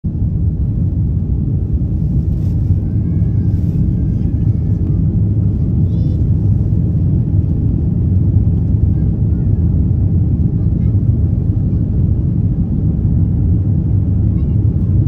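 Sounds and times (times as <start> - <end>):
airliner cabin rumble: 0.1 - 15.0.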